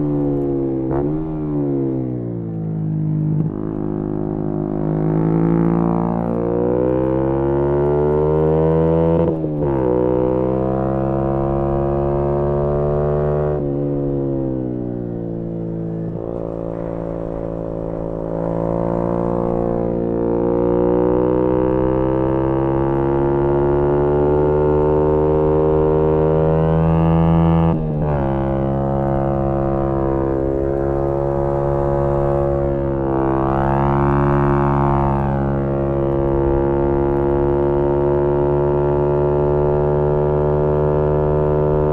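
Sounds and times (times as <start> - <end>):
motorcycle engine revving: 3.3 - 41.9.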